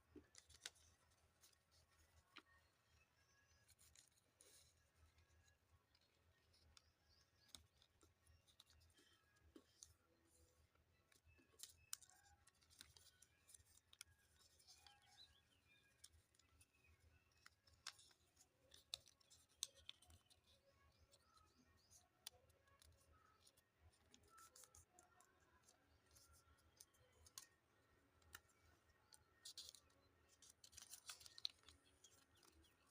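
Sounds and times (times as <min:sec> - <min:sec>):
paper being folded and creased: 0:00.2 - 0:32.9.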